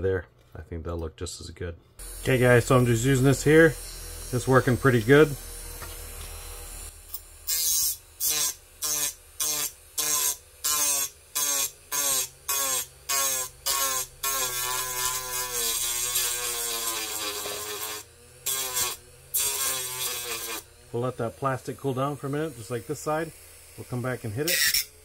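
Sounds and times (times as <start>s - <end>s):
rotary tool grinding plastic: 2.0s - 25.0s.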